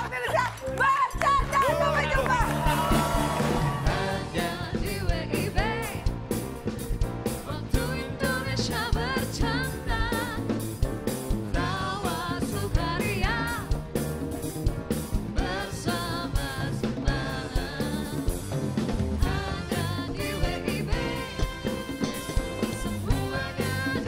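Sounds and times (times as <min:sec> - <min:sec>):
drum kit beat: 0:00.0 - 0:24.0
upbeat band music: 0:00.0 - 0:24.0.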